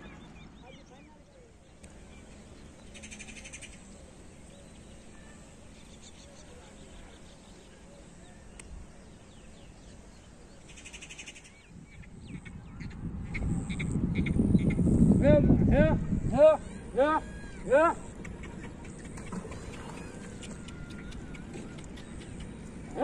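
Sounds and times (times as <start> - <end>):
birds chattering: 0.0 - 15.5, 16.1 - 23.0
low steady rumble: 0.0 - 23.0.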